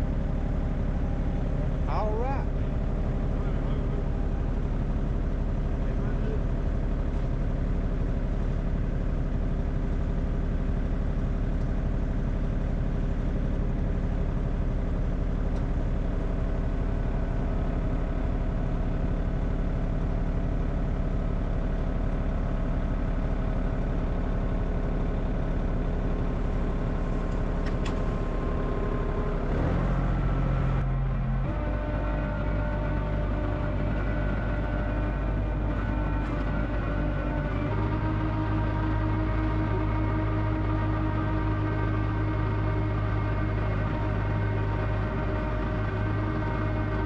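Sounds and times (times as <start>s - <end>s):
vehicle engine humming: 0.0s - 47.0s.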